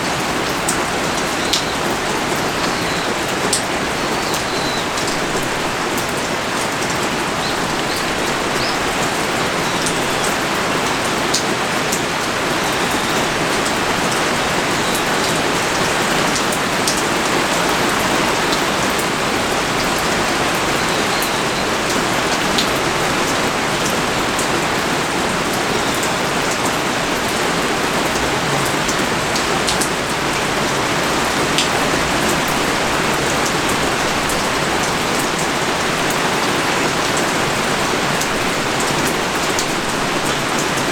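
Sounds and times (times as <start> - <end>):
pouring rain hiss: 0.0 - 40.9
rain drops tapping: 0.0 - 40.9.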